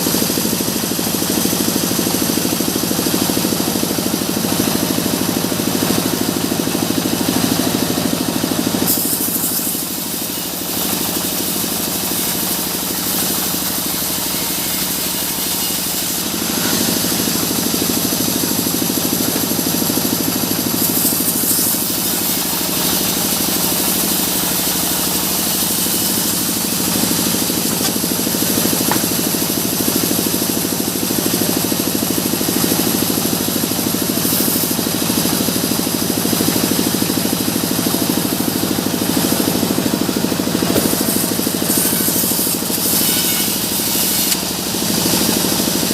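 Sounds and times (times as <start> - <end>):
sawmill machinery humming: 0.0 - 45.9.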